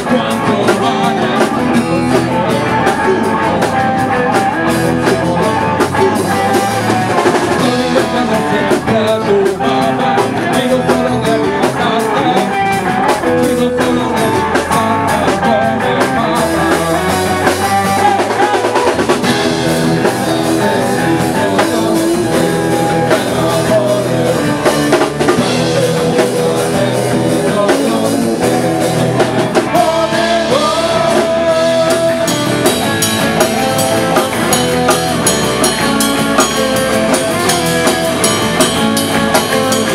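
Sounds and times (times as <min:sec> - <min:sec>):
drum kit: 0:00.0 - 0:39.9
electric bass: 0:00.0 - 0:39.9
man singing: 0:00.0 - 0:39.9.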